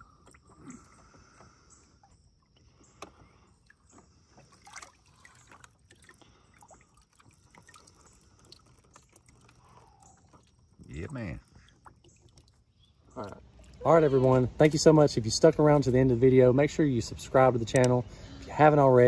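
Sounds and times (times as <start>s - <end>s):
water splashes and drips: 0.0s - 15.9s.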